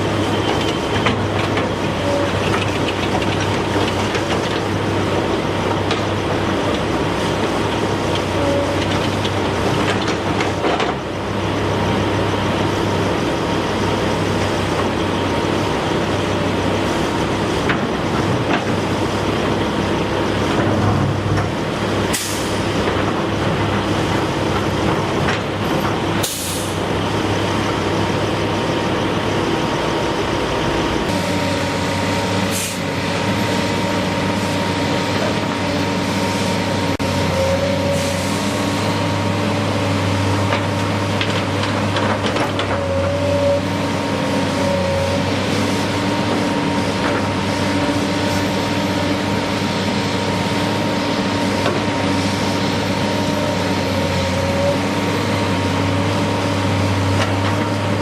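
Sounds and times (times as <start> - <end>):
diesel machinery humming: 0.0 - 58.0.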